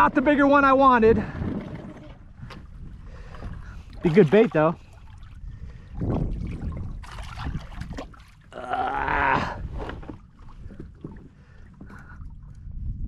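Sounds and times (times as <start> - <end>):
water splashing against kayak hull: 0.0 - 8.6, 9.3 - 12.9.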